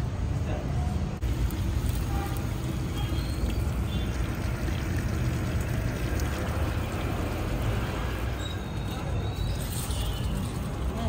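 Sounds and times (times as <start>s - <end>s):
food sizzling and bubbling: 1.2s - 11.0s.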